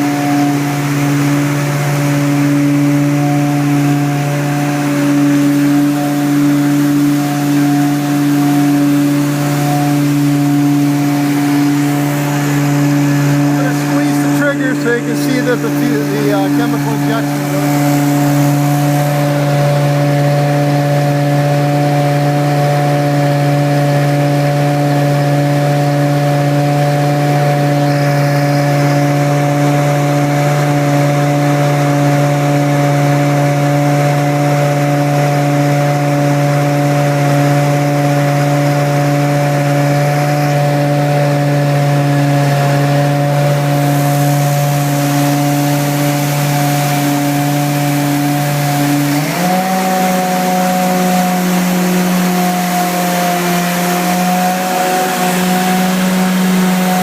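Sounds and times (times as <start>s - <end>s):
carpet cleaner engine humming: 0.0s - 57.0s
steady machine whine: 0.0s - 57.0s.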